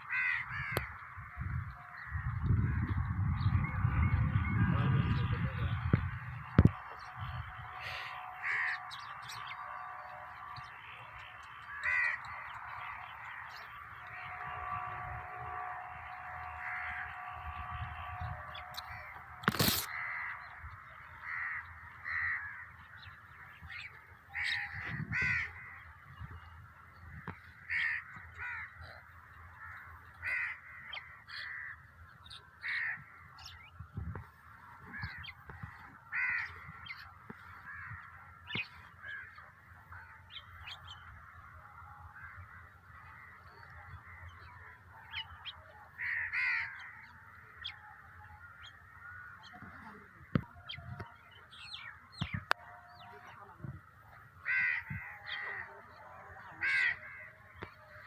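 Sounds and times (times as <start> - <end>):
crows cawing: 0.0 - 3.3, 5.7 - 58.0
bird chatter: 0.0 - 58.0.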